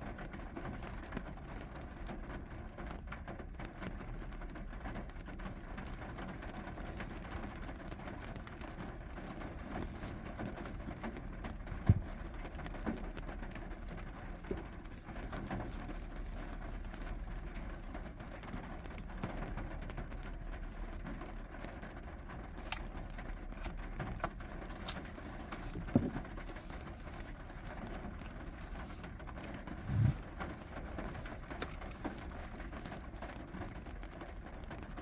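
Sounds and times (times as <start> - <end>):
steady rain: 0.0 - 35.0
low background rumble: 5.0 - 35.0.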